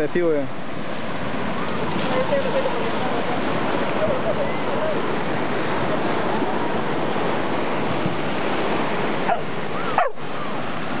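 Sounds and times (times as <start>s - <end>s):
ocean surf: 0.0s - 11.0s
wind on microphone: 1.3s - 11.0s.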